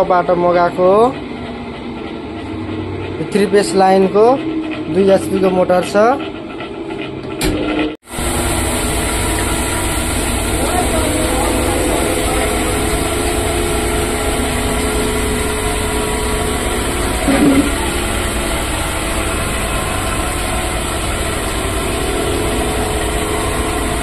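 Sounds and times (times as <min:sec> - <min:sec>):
spin dryer motor humming: 0:00.0 - 0:24.0.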